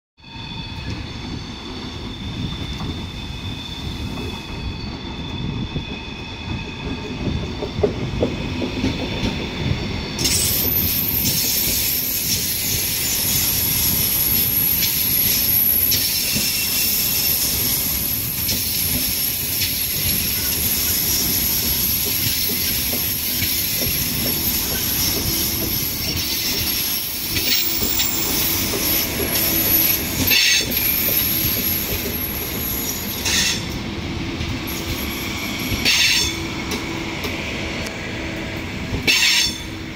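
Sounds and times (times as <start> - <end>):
high-pitched squeal: 0.2 - 7.8, 9.4 - 34.0, 34.6 - 39.9
electric train rolling past: 0.2 - 39.9.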